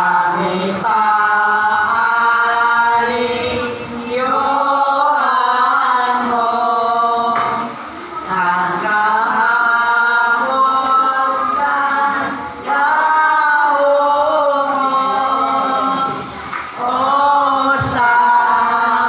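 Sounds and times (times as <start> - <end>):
group singing a hymn: 0.0 - 19.0.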